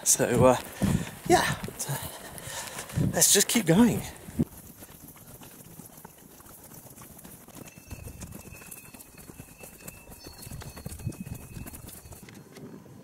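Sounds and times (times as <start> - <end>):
footsteps on stony path: 0.0 - 12.8
wind rumbling on microphone: 0.0 - 13.0.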